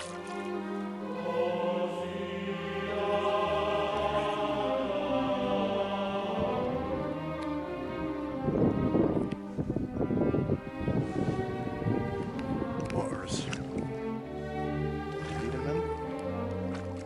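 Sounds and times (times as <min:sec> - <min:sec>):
music with sustained chords: 0:00.0 - 0:17.0.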